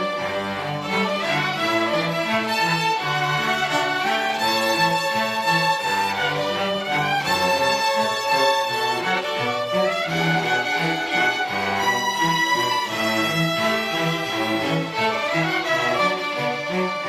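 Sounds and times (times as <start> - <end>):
cellos and low strings: 0.0 - 17.0
violins holding melody notes: 0.0 - 17.0.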